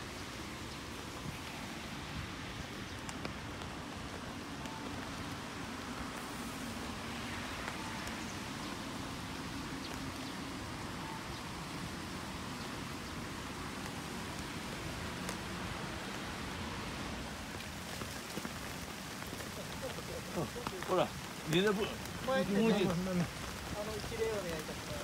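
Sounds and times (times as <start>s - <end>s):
steady rain falling: 0.0s - 25.0s
drops ticking on umbrellas: 0.5s - 11.8s, 12.5s - 25.0s.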